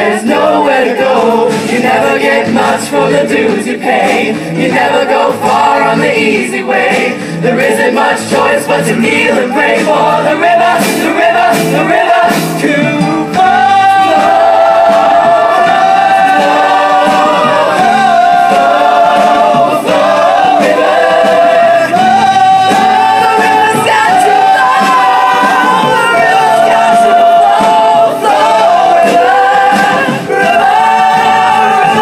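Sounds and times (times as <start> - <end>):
drums: 0.0 - 32.0
group singing in harmony: 0.0 - 32.0
keyboard: 0.0 - 32.0.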